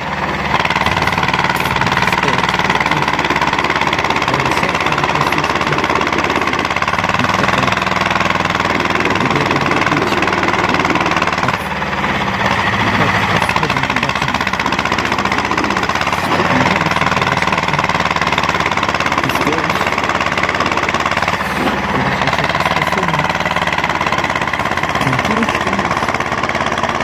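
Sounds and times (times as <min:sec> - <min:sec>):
diesel tractor engine knocking: 0:00.0 - 0:27.0.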